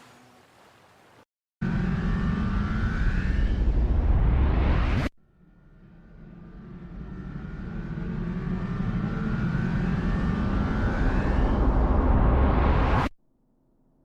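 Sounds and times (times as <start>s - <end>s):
faint whine: 1.6s - 13.1s.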